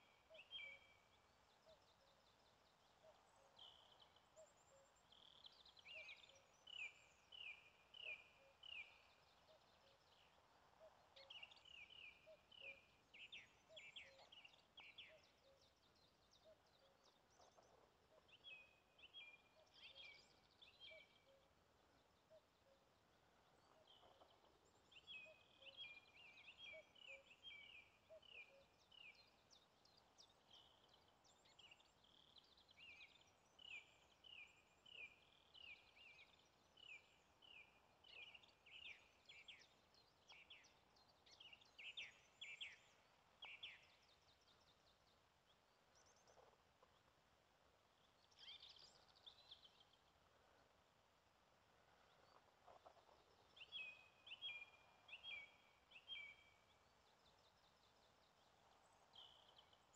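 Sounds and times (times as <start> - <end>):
bird chirping: 0.0 - 50.8, 51.8 - 59.9.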